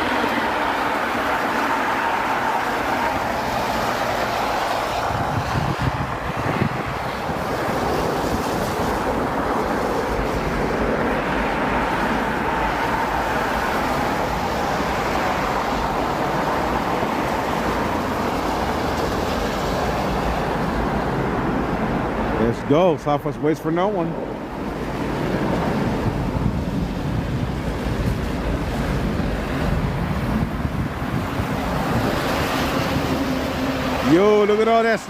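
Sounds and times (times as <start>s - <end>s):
distant jet engines roaring: 0.0s - 35.0s.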